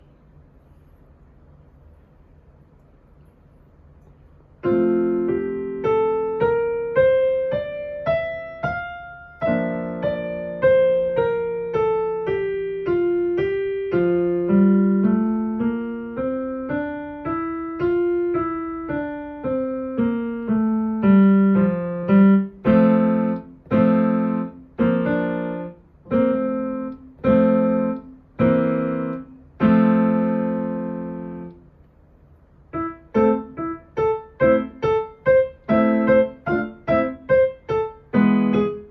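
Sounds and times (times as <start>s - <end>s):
piano playing: 4.6s - 31.6s, 32.7s - 38.9s.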